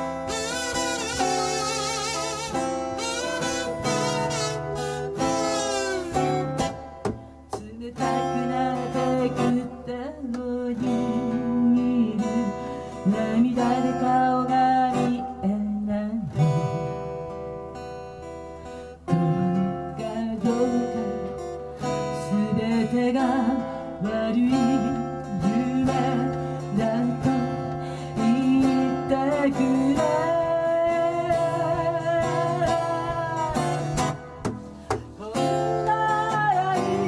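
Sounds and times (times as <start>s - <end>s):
woman singing: 0.0s - 17.2s, 19.1s - 37.0s
acoustic guitar strumming: 0.0s - 37.0s.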